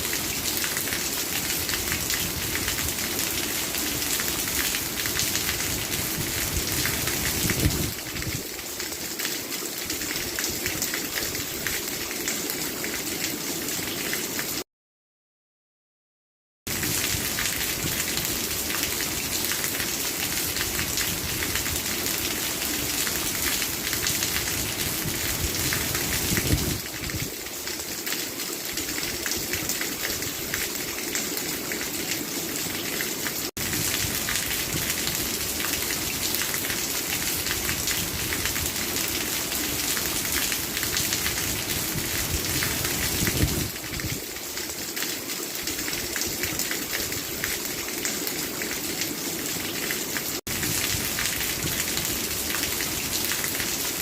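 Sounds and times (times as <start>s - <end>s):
steady rain falling: 0.0s - 14.6s, 16.7s - 54.0s.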